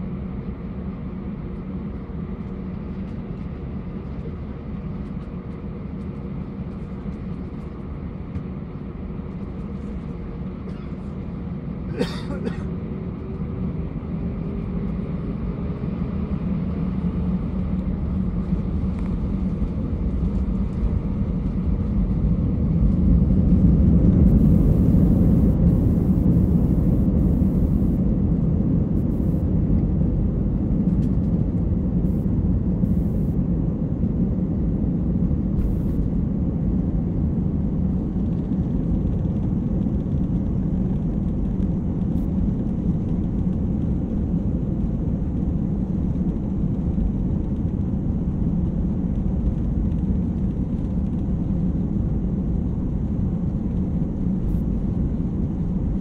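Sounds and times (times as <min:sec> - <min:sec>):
airliner engine hum: 0:00.0 - 0:56.0.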